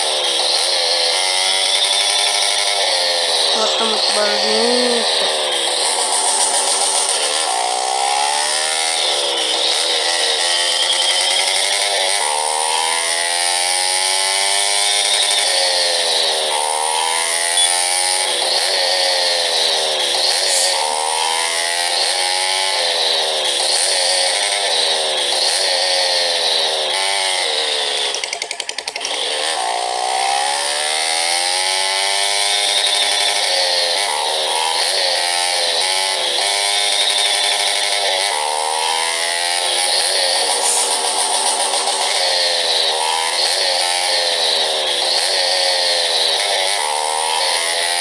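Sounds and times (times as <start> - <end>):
motorcycle engine revving: 0.0 - 3.8, 4.5 - 48.0.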